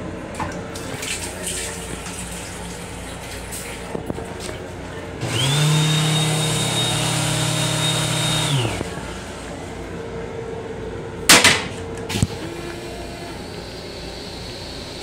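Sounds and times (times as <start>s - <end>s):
electric hum and whine: 0.0s - 15.0s.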